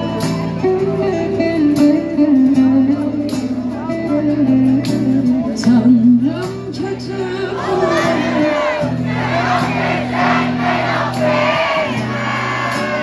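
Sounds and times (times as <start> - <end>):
percussion: 0.0 - 13.0.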